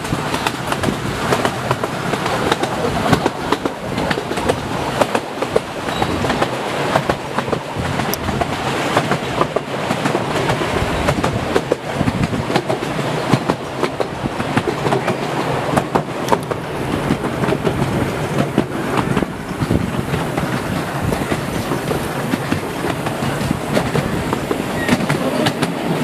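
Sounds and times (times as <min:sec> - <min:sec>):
train wheels rumbling: 0:00.0 - 0:26.0
wheels clicking over rail joints: 0:00.0 - 0:26.0.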